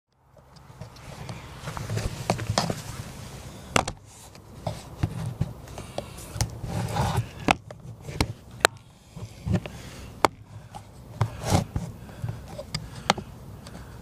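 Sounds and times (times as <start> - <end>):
rustling: 0.6 - 14.0.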